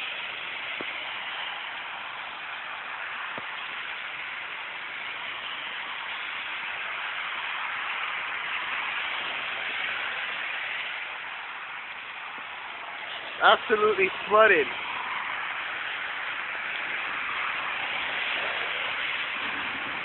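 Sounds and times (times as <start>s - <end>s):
floodwater running: 0.0s - 20.0s
heavy rain pouring: 0.0s - 20.0s.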